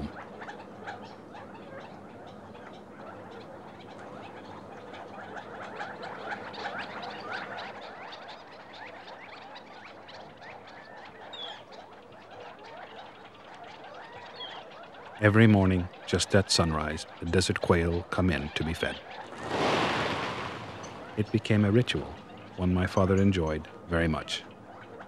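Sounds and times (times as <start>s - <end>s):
birds chirping in chorus: 0.0s - 25.0s.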